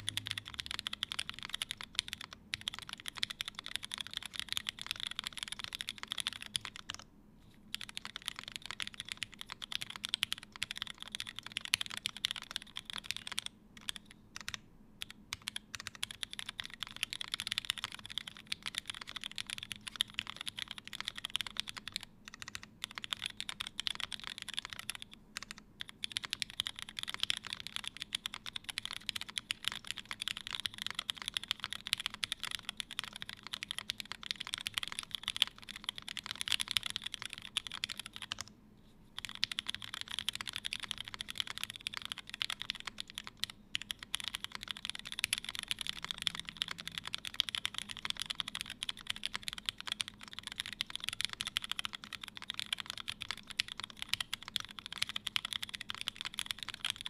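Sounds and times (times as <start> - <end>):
typing on mechanical keyboard: 0.0 - 7.1, 7.7 - 38.5, 39.2 - 57.0.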